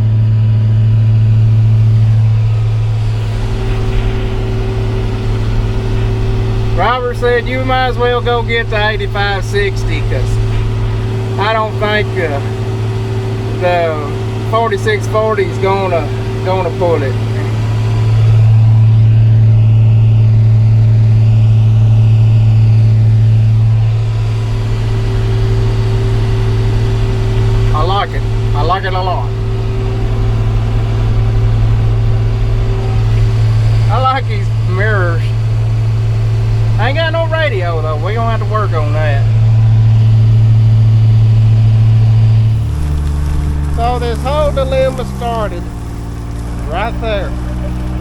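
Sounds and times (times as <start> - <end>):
higher steady hum: 0.0 - 48.0
tractor diesel engine droning: 0.0 - 48.0.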